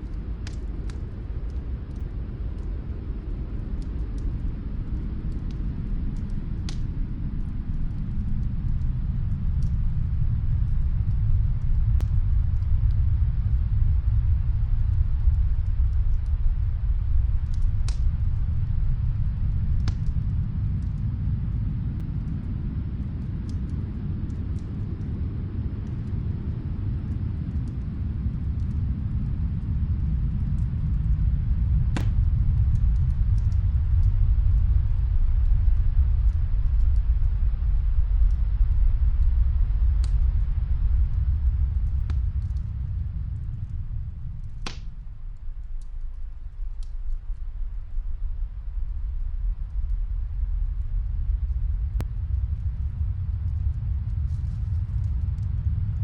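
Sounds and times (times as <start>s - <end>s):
faint wood fire crackles: 0.0s - 56.0s
snowstorm wind rumbling: 0.0s - 56.0s.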